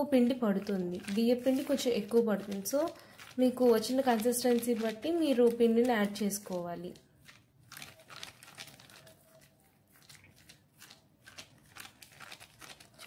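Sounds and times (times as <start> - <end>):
plastic sheet crinkling: 0.1 - 13.0.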